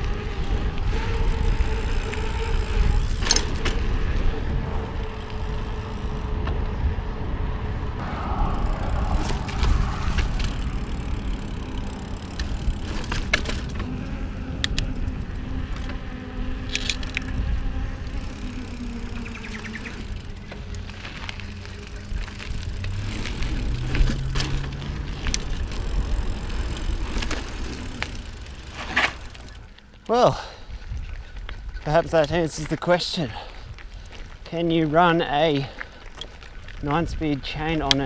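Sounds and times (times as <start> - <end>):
bike clicks and rattles: 0.0 - 6.8, 8.6 - 38.0
wind buffeting microphone: 0.0 - 28.7, 30.4 - 38.0.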